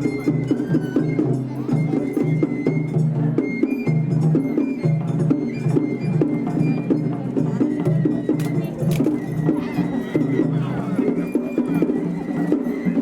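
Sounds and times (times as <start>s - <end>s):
high bamboo flute melody: 0.0s - 13.0s
rapid drum and metal percussion: 0.0s - 13.0s.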